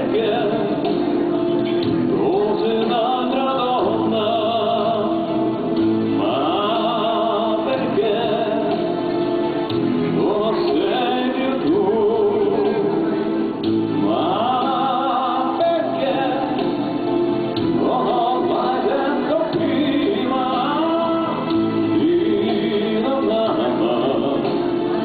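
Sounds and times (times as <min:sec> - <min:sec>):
man singing: 0:00.0 - 0:09.4, 0:10.1 - 0:25.0
instrumental accompaniment: 0:00.0 - 0:25.0.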